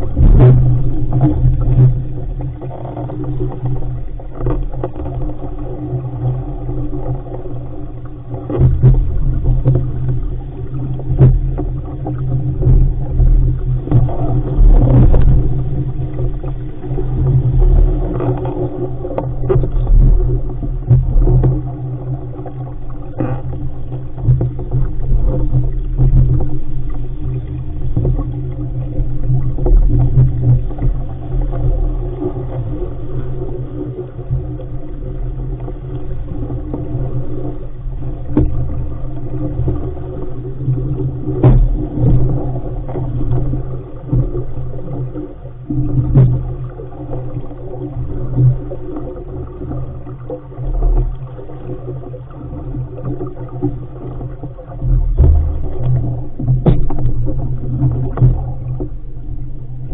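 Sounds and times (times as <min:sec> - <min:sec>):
wind and water rushing: 0:00.0 - 0:59.9.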